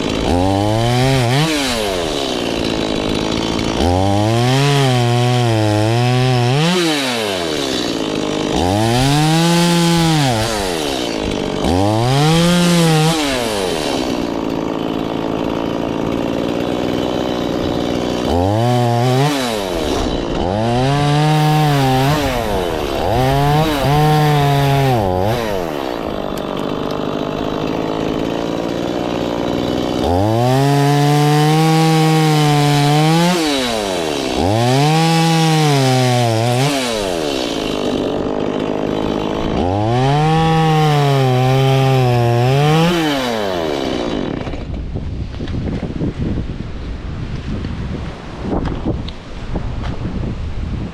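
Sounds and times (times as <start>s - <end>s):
chainsaw revving: 0.0s - 45.4s
chainsaw cutting wood: 0.0s - 50.2s.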